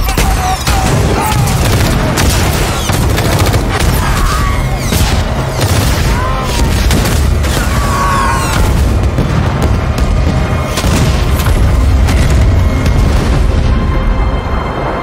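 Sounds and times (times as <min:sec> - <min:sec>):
debris cracking: 0:00.0 - 0:13.7
explosion booms: 0:00.2 - 0:14.9.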